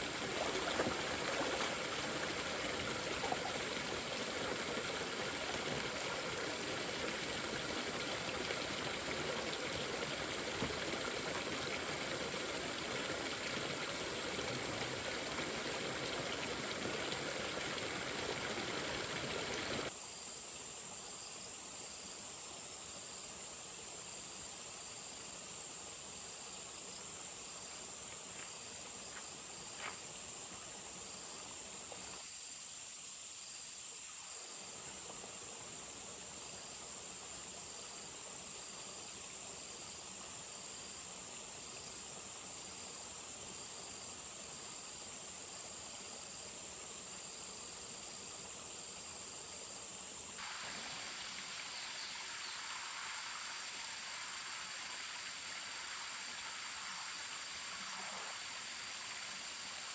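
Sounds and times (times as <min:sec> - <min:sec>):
insects chirping: 0:00.0 - 0:59.9
mountain stream water running: 0:00.0 - 0:59.9.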